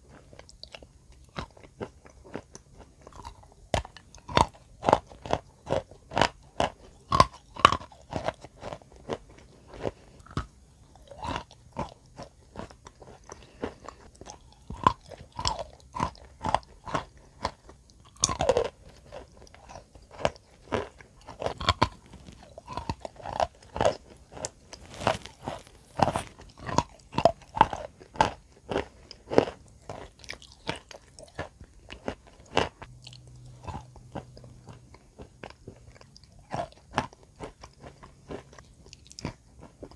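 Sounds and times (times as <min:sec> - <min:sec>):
chalk crunching while chewed: 0:00.0 - 0:39.9.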